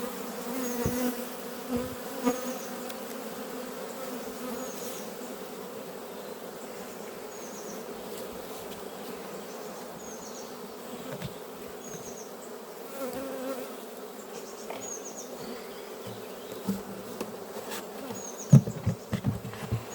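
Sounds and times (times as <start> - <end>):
bees buzzing: 0.0 - 19.9.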